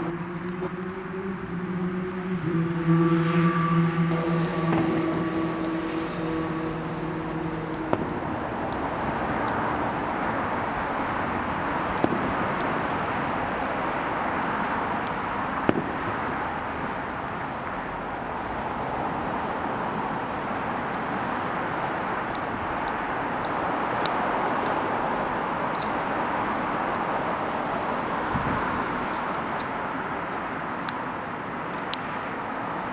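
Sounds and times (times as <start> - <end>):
distant road traffic: 0.0 - 32.9.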